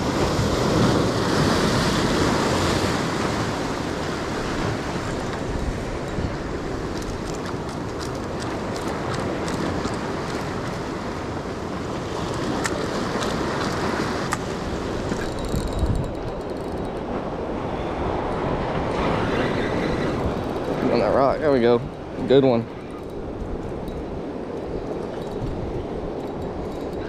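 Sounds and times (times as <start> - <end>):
waves breaking against rocks: 0.0 - 16.3, 17.0 - 27.0
wind buffeting microphone: 0.0 - 27.0.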